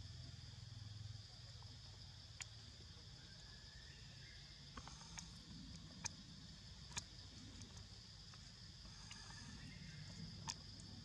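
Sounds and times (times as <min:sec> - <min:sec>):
high-pitched insect hum: 0:00.0 - 0:11.0.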